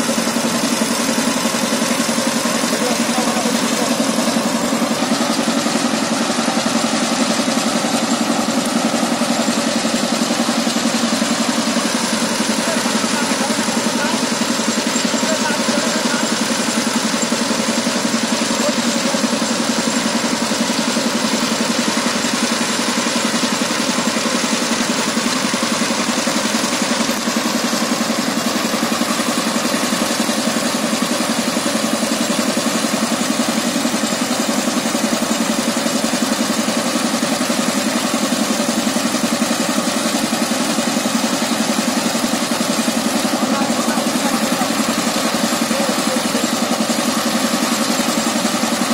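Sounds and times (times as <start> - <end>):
diesel engine running steadily: 0.0 - 48.9.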